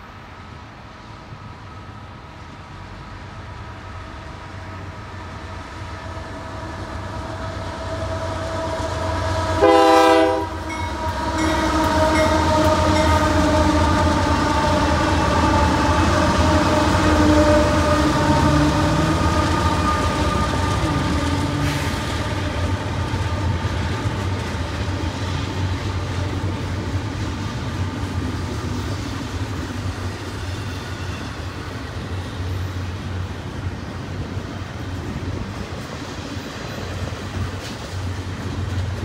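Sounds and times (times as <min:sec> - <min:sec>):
diesel locomotives passing: 0:00.0 - 0:39.0
freight cars rumbling on rails: 0:00.0 - 0:39.0.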